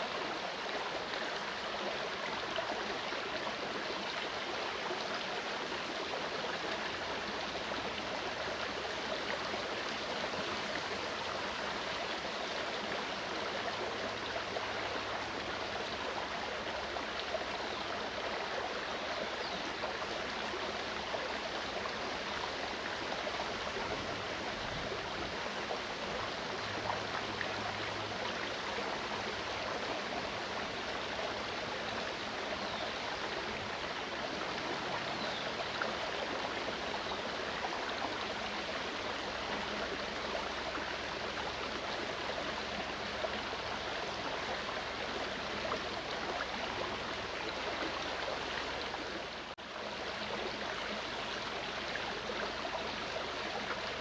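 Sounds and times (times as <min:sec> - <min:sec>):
creek babbling over stones: 0:00.0 - 0:54.0.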